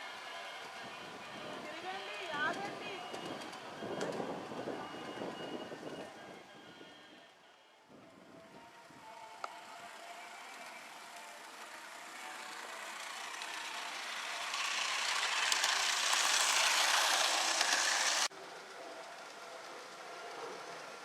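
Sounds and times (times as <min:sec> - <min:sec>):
model train running on track: 0:00.0 - 0:21.0.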